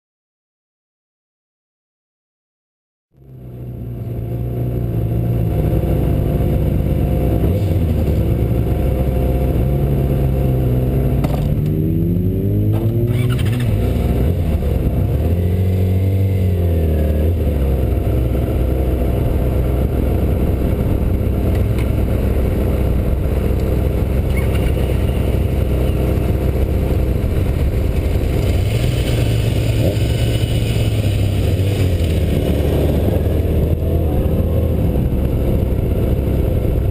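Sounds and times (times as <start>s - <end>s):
motorcycle engine revving: 3.2s - 36.9s.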